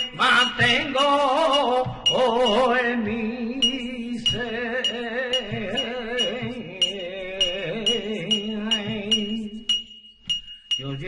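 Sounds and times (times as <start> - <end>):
man singing unaccompanied: 0.0 - 9.8, 10.8 - 11.0.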